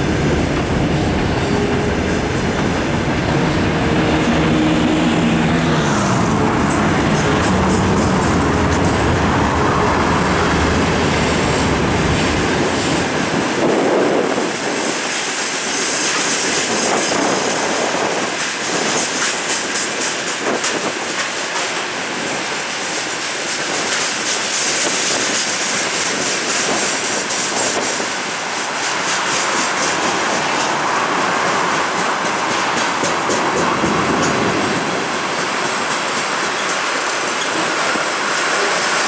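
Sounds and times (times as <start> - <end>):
diesel locomotive drone: 0.0 - 39.0
freight train wagons rolling: 0.0 - 39.0
wheels clacking over rail joints: 0.0 - 39.0.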